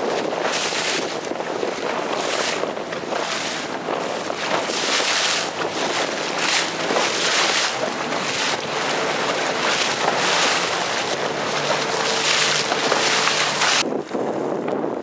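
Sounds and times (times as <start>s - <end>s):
choppy sea: 0.0s - 15.0s
wind buffeting microphone: 0.0s - 15.0s.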